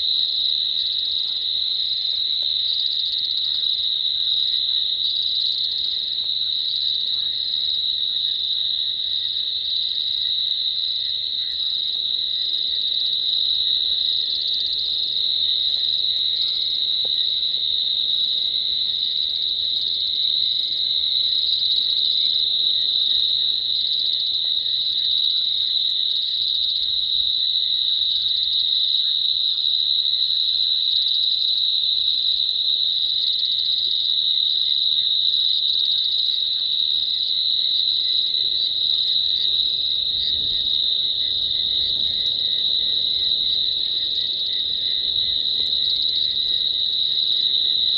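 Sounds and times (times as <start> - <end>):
chorus of night insects: 0.0 - 47.9.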